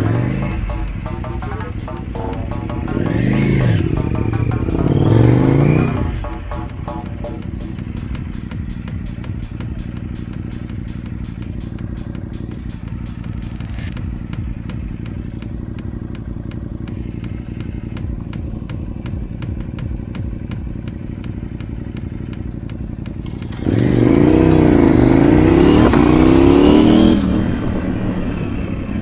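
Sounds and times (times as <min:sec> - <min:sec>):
light engine ticking: 0:00.0 - 0:29.0
motorcycle engine idling: 0:00.0 - 0:29.0
motorcycle engine revving: 0:00.0 - 0:29.0.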